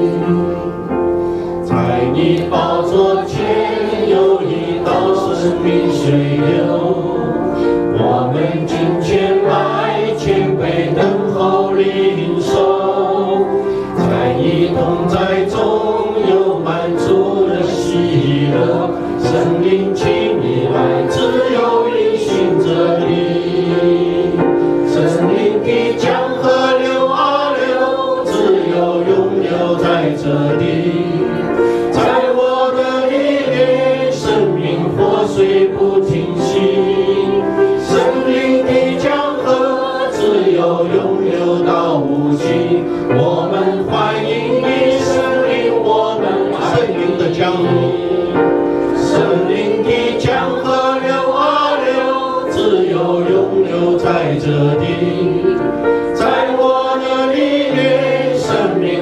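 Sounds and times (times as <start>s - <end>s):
congregation singing worship song: 0.0s - 59.0s
piano accompaniment: 0.0s - 59.0s.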